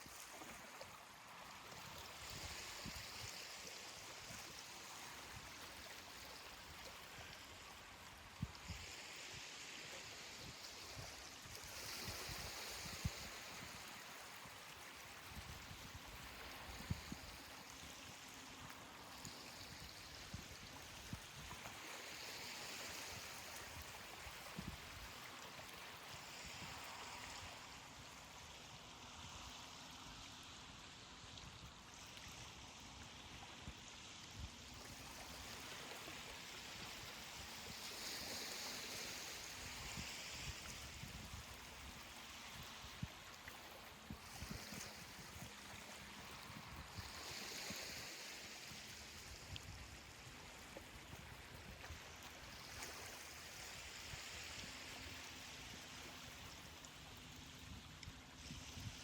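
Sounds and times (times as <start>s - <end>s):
ocean waves washing on beach: 0.0s - 59.0s.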